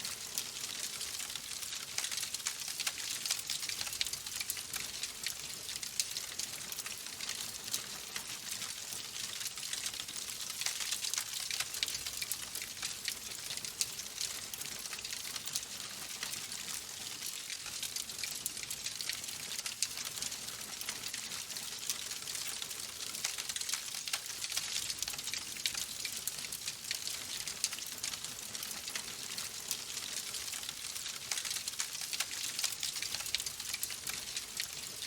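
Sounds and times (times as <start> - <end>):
logs crackling in fireplace: 0.1 - 34.9.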